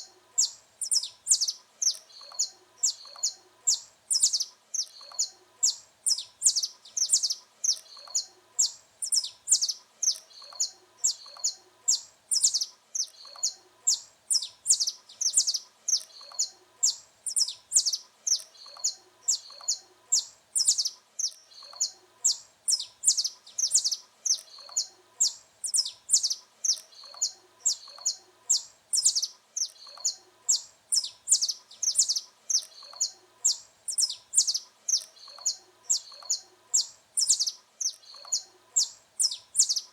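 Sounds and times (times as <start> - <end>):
finch singing high sharp chirps: 0.0 - 39.9.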